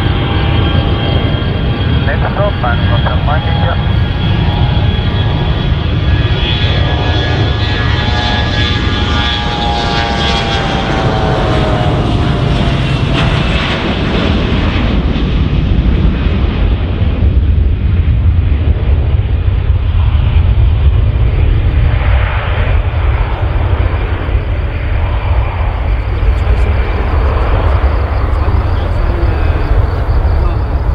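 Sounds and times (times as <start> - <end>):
deep jet rumble: 0.0 - 30.9
jet engine whine: 0.0 - 30.9.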